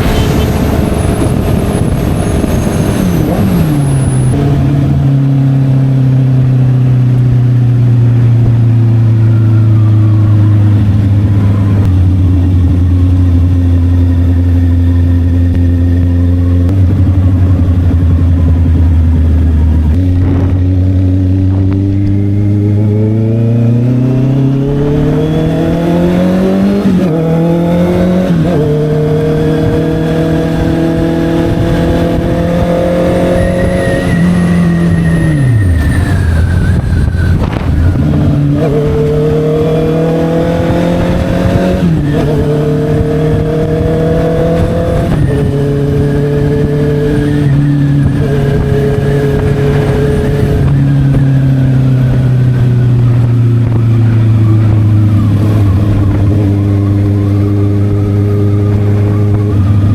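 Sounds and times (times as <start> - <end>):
motorcycle engine revving through upshifts: 0.0 - 59.9.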